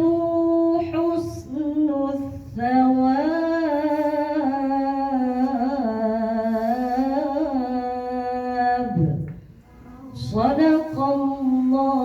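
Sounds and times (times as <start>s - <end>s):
woman chanting melodic recitation: 0.0s - 9.2s, 10.0s - 12.0s.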